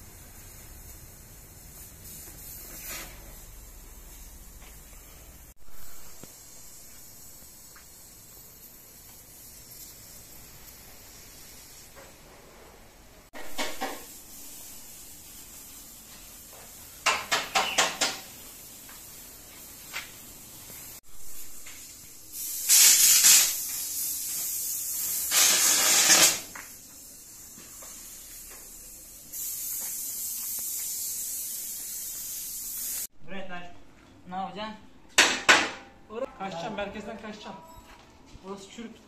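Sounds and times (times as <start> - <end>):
welding torch hissing: 0.0 - 33.1.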